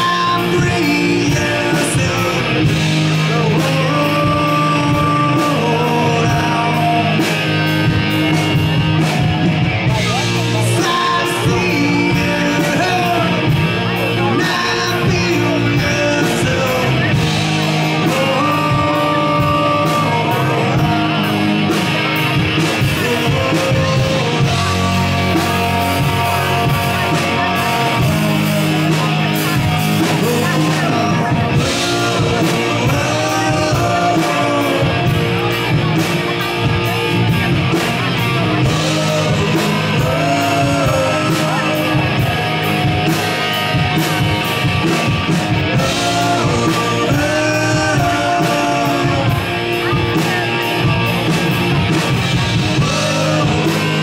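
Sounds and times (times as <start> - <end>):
lead singer singing: 0.0 - 54.0
live rock band playing: 0.0 - 54.0.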